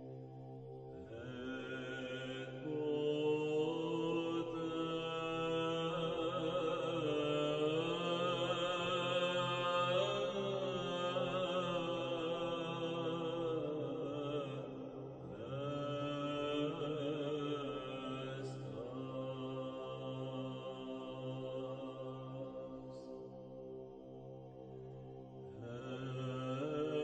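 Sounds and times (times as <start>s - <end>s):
slow chanting voices: 0.0s - 27.0s.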